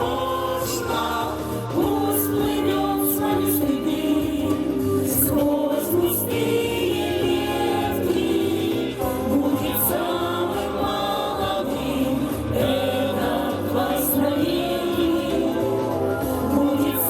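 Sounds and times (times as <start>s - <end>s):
choir singing: 0.0s - 17.0s
instrumental accompaniment: 0.0s - 17.0s.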